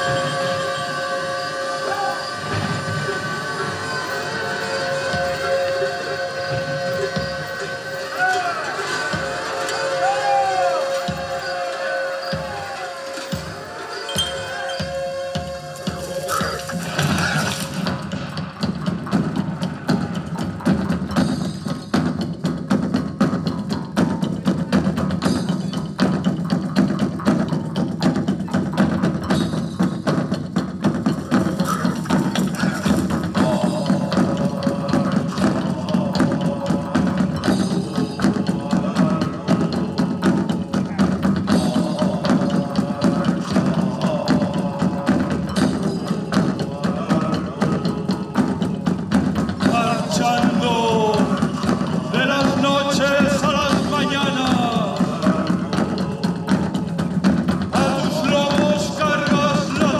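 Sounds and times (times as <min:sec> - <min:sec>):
fast percussion strikes: 0:00.0 - 0:59.9.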